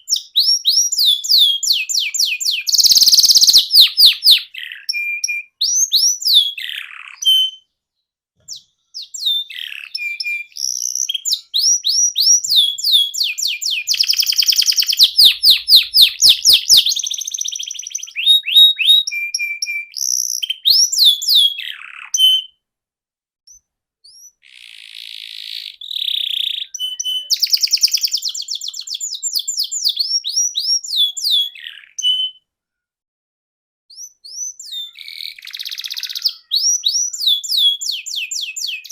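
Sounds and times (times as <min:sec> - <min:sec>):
canary singing trills: 0:00.0 - 0:07.8, 0:08.4 - 0:22.6, 0:23.5 - 0:32.4, 0:33.9 - 0:38.9.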